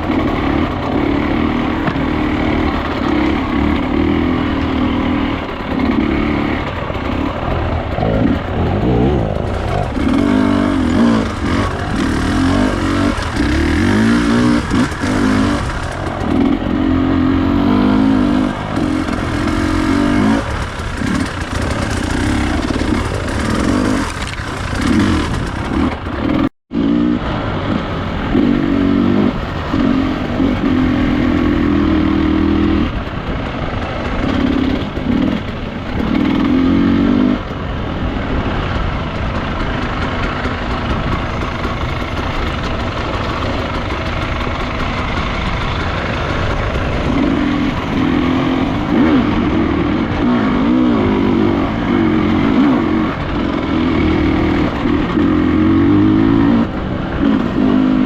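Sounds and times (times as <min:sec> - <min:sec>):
dirt bike engine revving: 0:00.0 - 0:58.0
steady rushing noise: 0:00.0 - 0:58.0.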